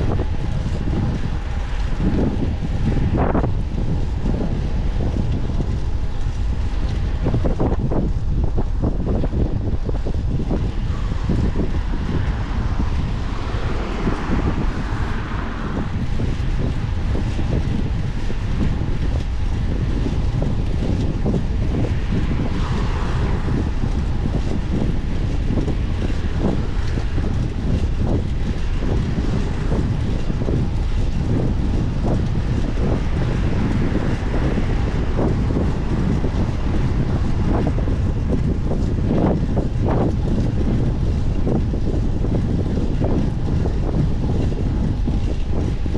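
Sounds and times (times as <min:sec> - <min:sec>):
low road rumble: 0:00.0 - 0:45.9
wind rush on microphone: 0:00.0 - 0:45.9.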